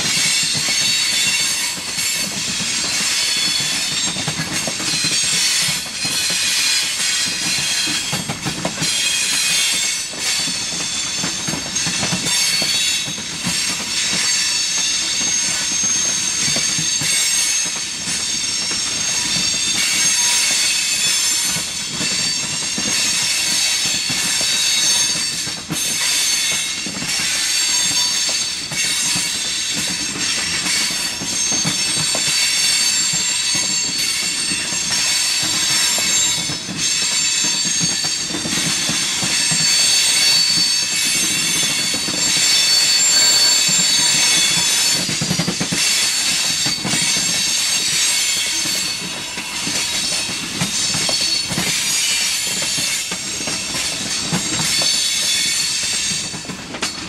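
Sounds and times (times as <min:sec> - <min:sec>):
train wheels rumbling on rail: 0:00.0 - 0:57.0
high-pitched wheel squeal: 0:08.8 - 0:56.3.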